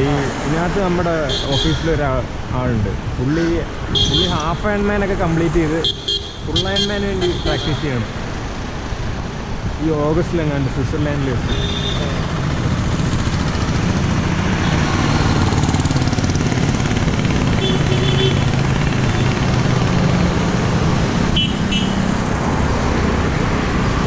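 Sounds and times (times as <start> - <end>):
traffic passing on road: 0.0 - 24.0.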